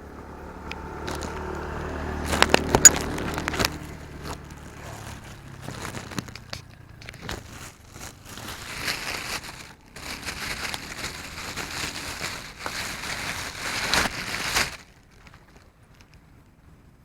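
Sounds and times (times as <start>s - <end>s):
rustling crinkling noise: 0.6s - 16.6s.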